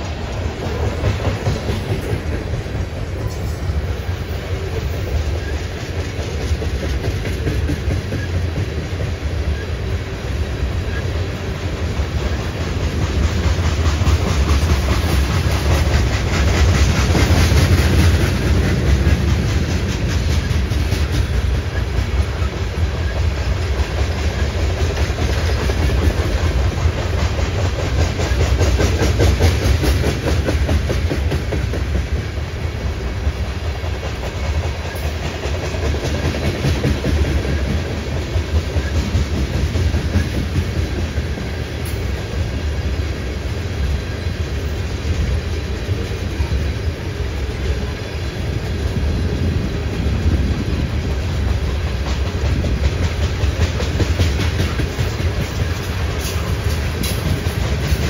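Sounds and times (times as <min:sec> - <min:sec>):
wheels clicking over rail joints: 0:00.0 - 0:09.9, 0:10.6 - 0:58.0
freight train cars rumbling: 0:00.0 - 0:58.0.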